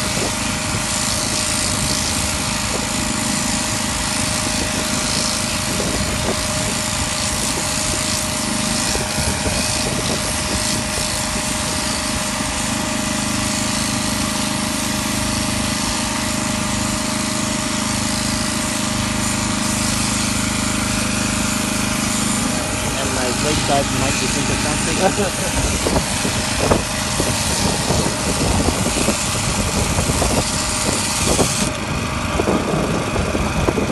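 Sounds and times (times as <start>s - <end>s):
electric shears buzzing: 0.0s - 33.9s.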